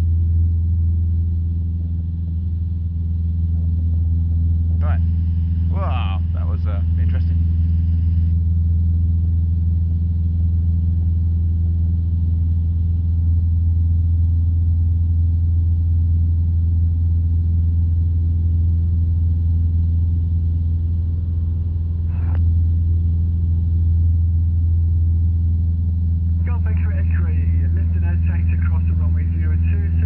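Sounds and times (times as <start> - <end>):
propeller aircraft engine droning: 0.0 - 30.0.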